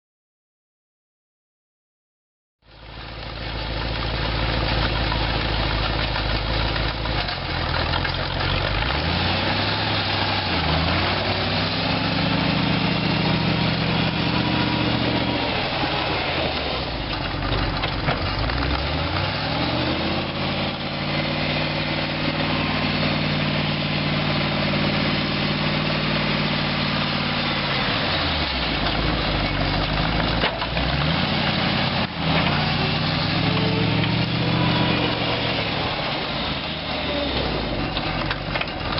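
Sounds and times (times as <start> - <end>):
tractor engine revving: 2.8 - 38.9.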